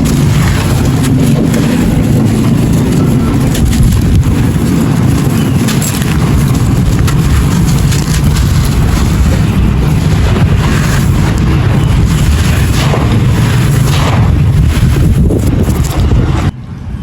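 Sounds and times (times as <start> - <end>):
dry clay gritty crunching: 0.0 - 16.5.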